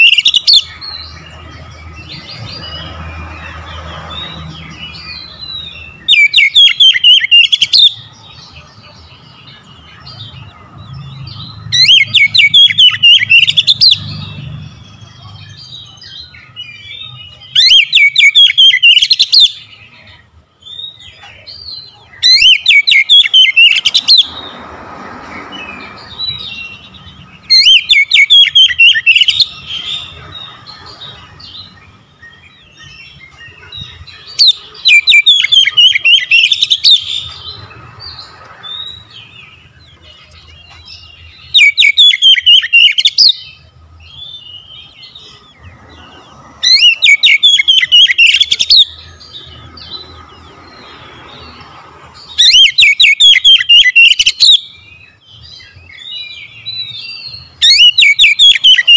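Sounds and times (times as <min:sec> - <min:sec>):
bird singing rapid repeated notes: 0:00.0 - 0:58.9.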